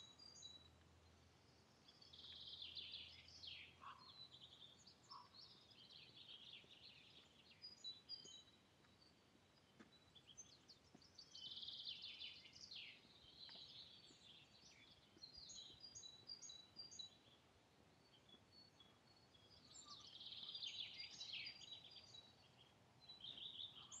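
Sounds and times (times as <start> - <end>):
faint songbirds chirping: 0.0 - 24.0.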